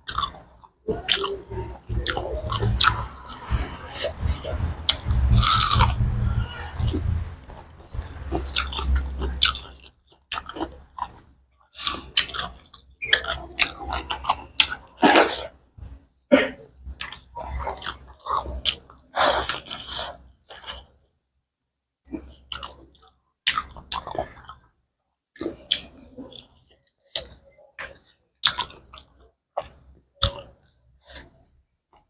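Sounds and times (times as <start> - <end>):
chewing and mouth smacks: 0.0 - 6.0, 7.8 - 15.4, 16.9 - 20.9, 22.1 - 24.7, 25.4 - 32.0.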